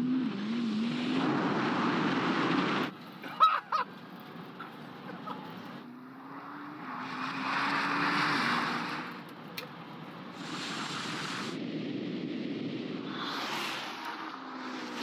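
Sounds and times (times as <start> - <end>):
road and wind noise: 0.0 - 15.0
steady car hum: 0.0 - 15.0.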